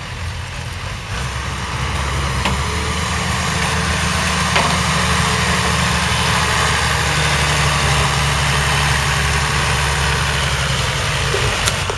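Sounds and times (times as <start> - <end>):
tractor diesel engine running: 0.0 - 11.9.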